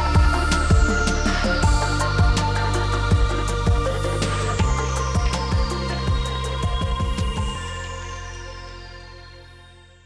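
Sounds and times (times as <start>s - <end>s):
electronic music with steady beat: 0.0s - 9.0s.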